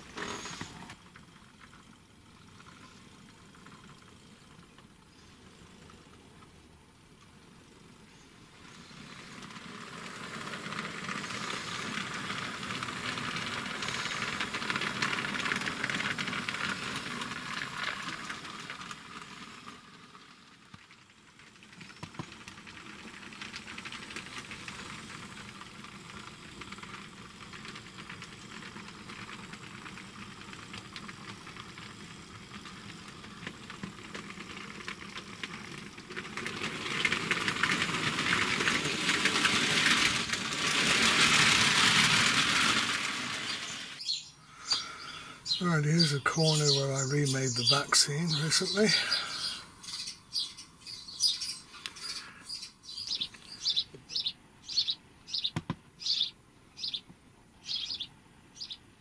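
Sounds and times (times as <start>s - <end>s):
model trains running on track: 0.0s - 44.0s, 44.7s - 55.0s.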